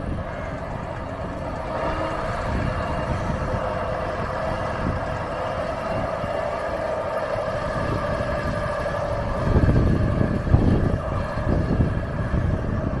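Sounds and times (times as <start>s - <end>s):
diesel lorry engine droning: 0.0s - 13.0s
wind buffeting microphone: 0.0s - 13.0s.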